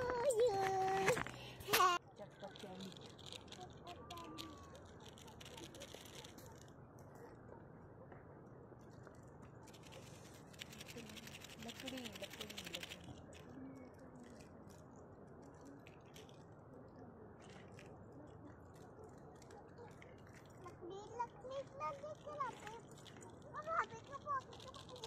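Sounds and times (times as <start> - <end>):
faint voices: 0.0 - 25.0.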